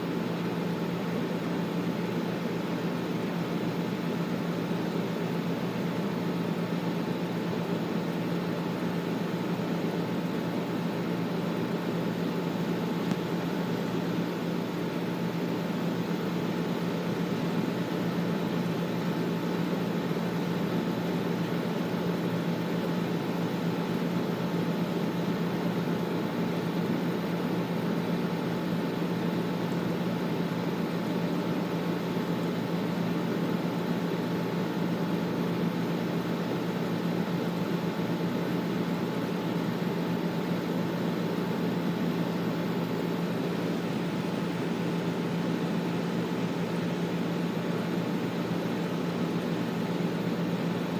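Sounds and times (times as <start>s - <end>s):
air conditioner running: 0.0s - 50.9s.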